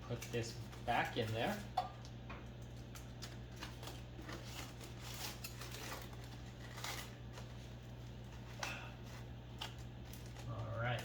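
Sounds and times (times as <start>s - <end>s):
aluminium foil crinkling: 0.0s - 11.0s
steady low hum: 0.0s - 11.0s.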